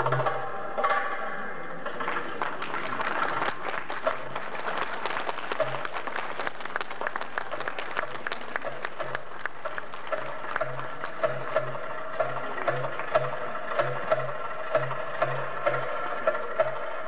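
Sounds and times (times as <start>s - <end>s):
audience applauding: 1.8s - 17.0s.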